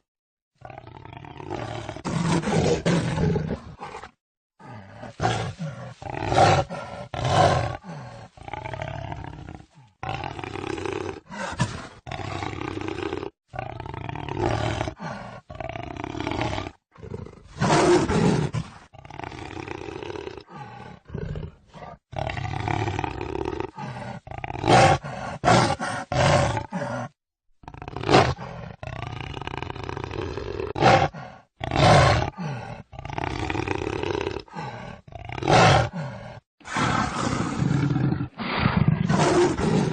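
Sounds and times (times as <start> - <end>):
jaguar roaring: 0.6 - 39.9.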